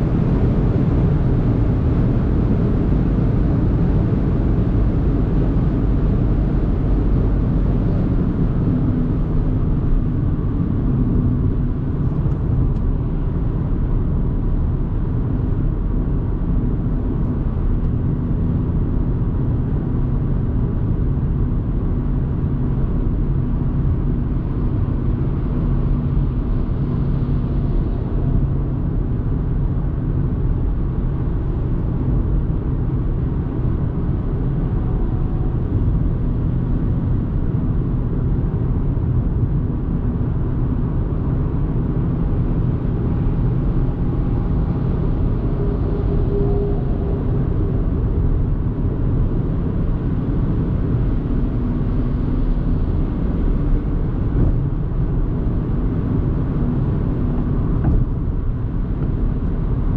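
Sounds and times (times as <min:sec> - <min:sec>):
car engine hum: 0:00.0 - 0:59.9
road noise: 0:00.0 - 0:59.9
wind noise: 0:00.0 - 0:59.9.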